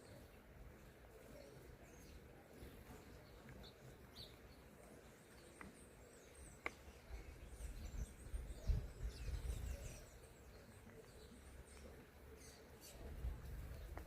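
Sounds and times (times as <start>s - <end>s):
faint bird chirps and calls: 0.0s - 14.0s.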